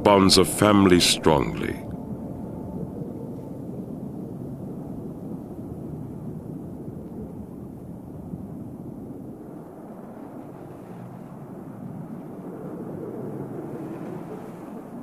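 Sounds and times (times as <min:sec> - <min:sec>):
low underwater rumbling: 0:01.2 - 0:15.0.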